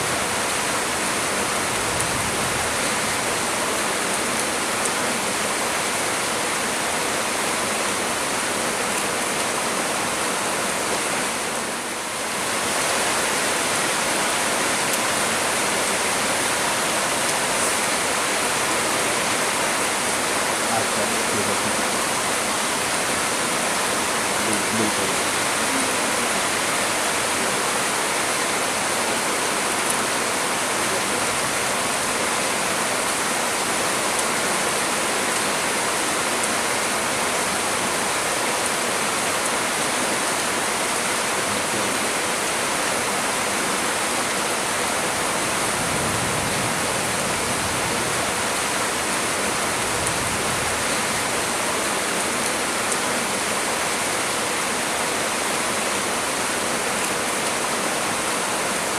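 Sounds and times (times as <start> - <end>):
heavy rain pouring on trees: 0.0 - 58.9.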